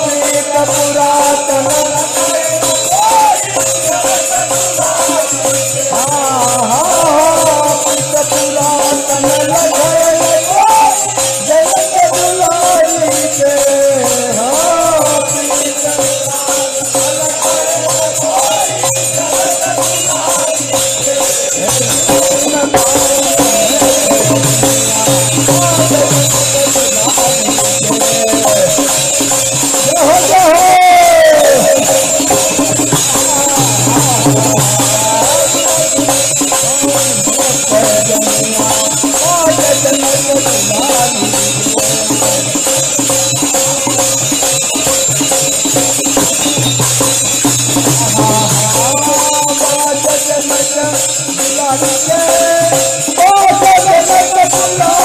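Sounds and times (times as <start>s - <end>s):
hand drum beat: 0.0s - 55.0s
men singing devotional music: 0.0s - 55.0s
small metal cymbals jingling: 0.0s - 55.0s.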